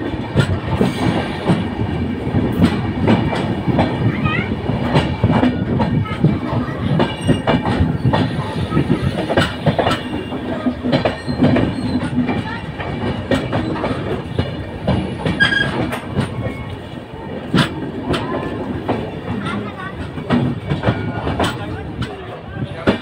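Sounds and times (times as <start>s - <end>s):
train wheels clattering over rails: 0.0s - 23.0s.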